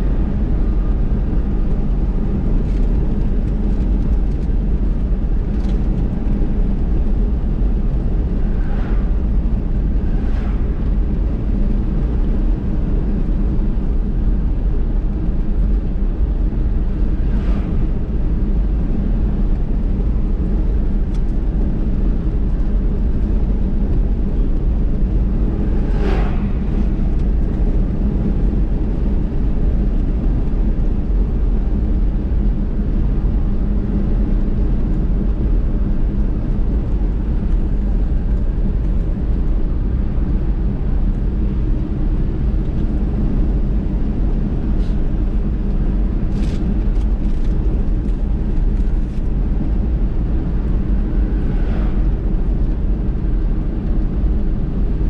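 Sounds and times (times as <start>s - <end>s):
car driving on road: 0.0s - 55.0s.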